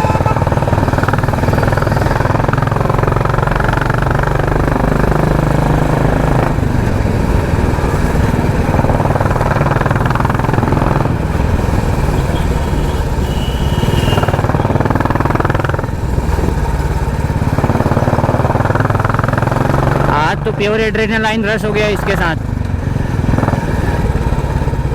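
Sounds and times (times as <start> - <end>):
motorcycle engine with loud exhaust: 0.0 - 24.9.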